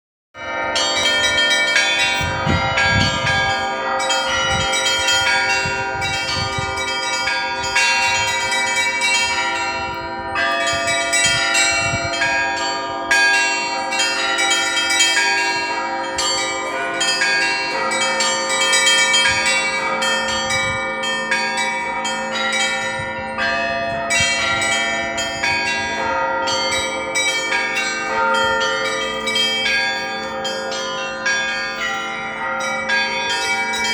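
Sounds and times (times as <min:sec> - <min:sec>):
middle bells lingering tones: 0:00.4 - 0:33.9
deep heavy bell strokes: 0:00.5 - 0:33.9
small bells ringing rapidly: 0:00.6 - 0:12.7, 0:13.3 - 0:33.9.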